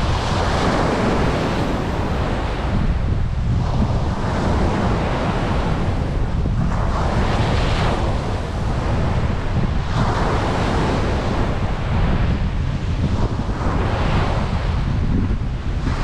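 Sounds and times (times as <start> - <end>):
ocean surf breaking: 0.0 - 16.0
wind rumble on microphone: 0.0 - 16.0.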